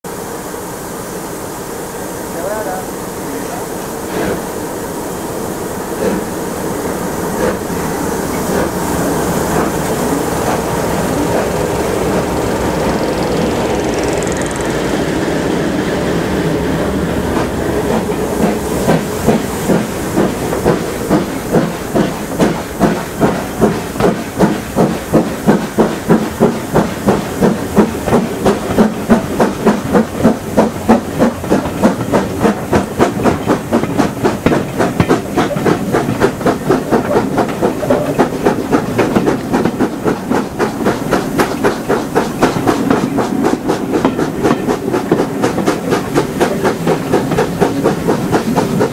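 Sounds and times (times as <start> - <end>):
steam hissing: 0.1 - 48.9
steam locomotive chuffing: 0.1 - 48.9
train wheels clicking over rail joints: 5.9 - 48.9.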